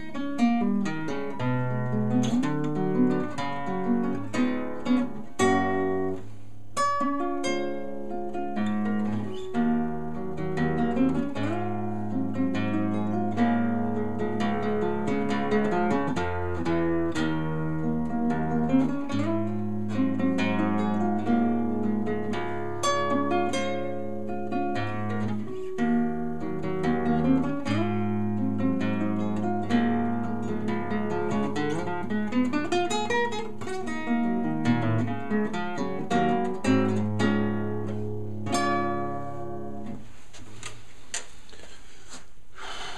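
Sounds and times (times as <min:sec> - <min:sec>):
acoustic guitar plucking: 0:00.0 - 0:41.7.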